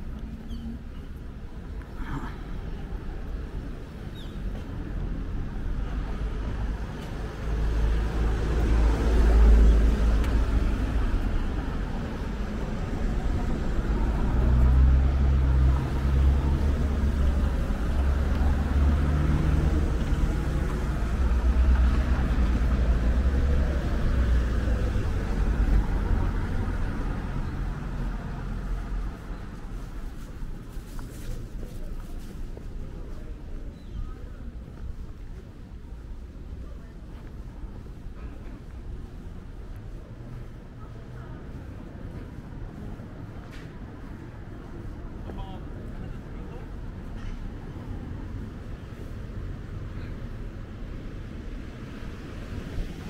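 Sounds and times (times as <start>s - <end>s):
street traffic noise: 0.0s - 53.0s.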